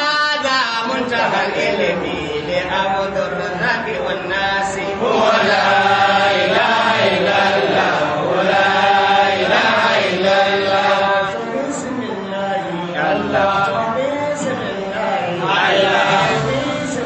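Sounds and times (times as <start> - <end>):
men chanting into microphones: 0.0 - 17.0.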